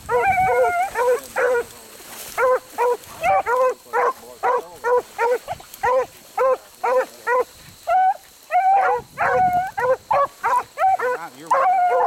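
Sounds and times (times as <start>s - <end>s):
dogs baying and barking: 0.0s - 12.0s.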